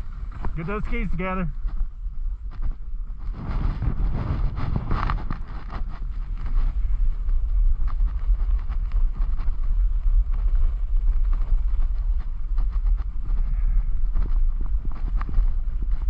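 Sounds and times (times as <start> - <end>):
skis scraping over packed snow: 0.0 - 16.0
wind rumbling on microphone: 0.0 - 16.0.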